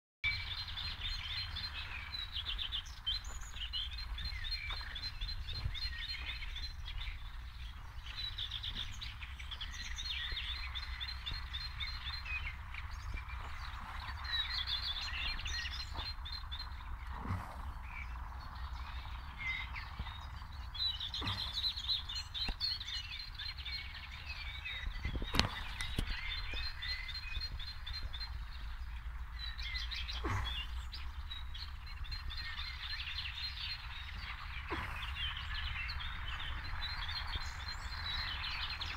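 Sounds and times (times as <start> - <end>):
songbirds chirping and trilling: 0.2 - 38.9.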